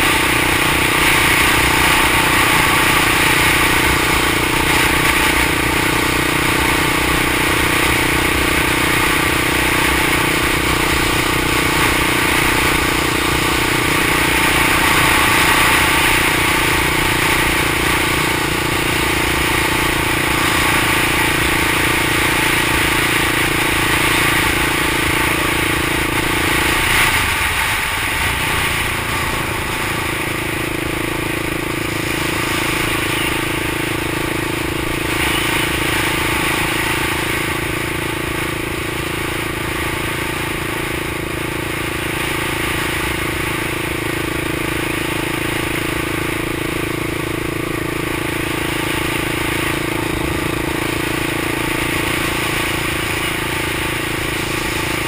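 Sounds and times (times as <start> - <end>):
engine running at cruising speed: 0.0 - 55.0
wind and road noise: 0.0 - 55.0.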